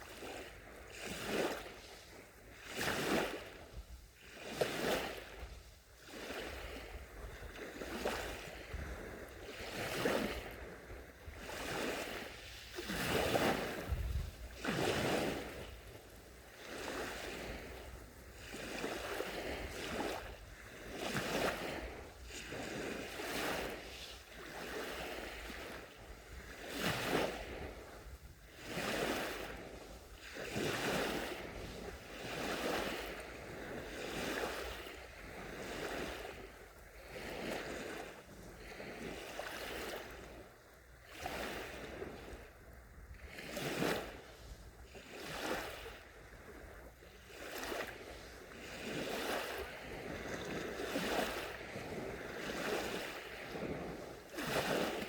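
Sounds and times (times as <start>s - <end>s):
waves washing onto sandy beach: 0.0s - 55.0s.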